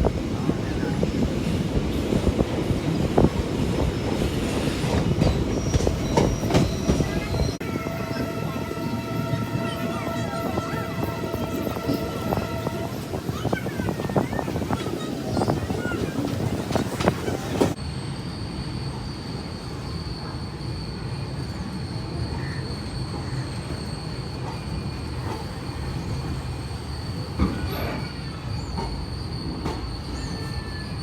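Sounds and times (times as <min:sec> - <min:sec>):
train coaches rumbling over rails: 0:00.0 - 0:31.0.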